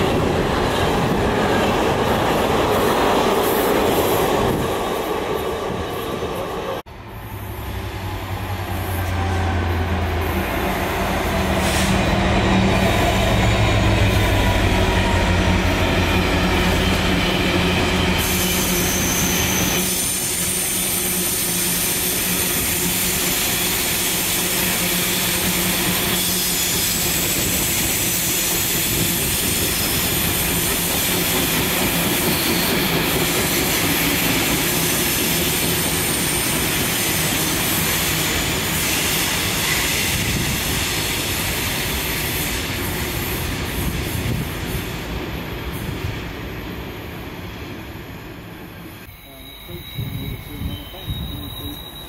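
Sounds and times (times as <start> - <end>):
diesel locomotive engine: 0.0 - 52.0.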